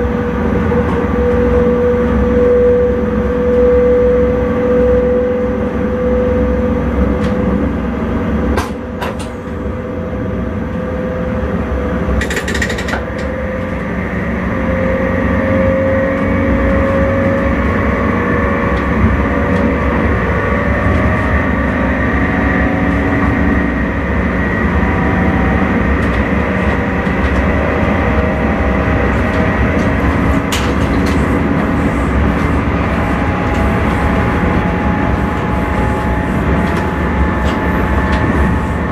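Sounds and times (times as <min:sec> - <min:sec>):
train rumbling and humming: 0:00.0 - 0:38.9.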